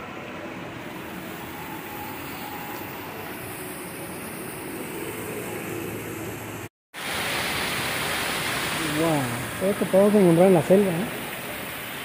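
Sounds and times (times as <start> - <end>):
water rushing from indoor waterfall: 0.9 - 12.0.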